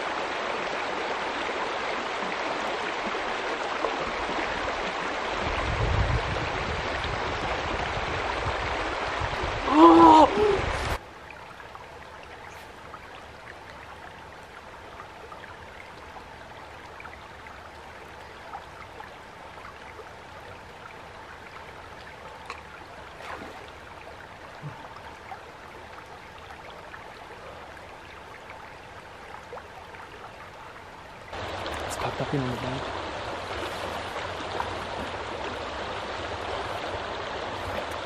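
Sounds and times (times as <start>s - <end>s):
creek flowing over stones: 0.0s - 38.0s.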